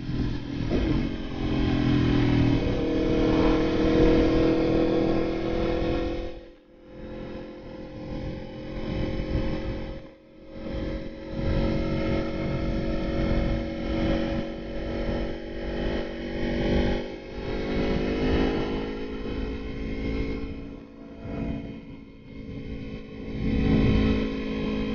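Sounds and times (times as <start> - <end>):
motorcycle engine running: 0.0 - 24.9
road and wind noise: 0.0 - 24.9.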